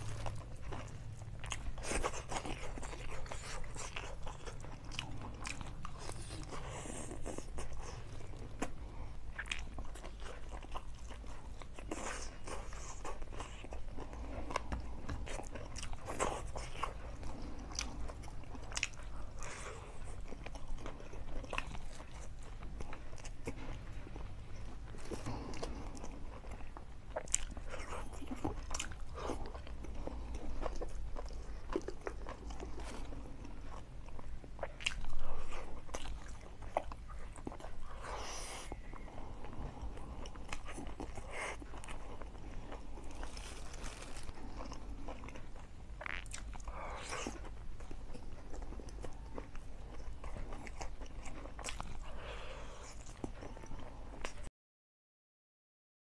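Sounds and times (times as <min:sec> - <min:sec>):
person chewing and smacking: 0:00.0 - 0:54.5.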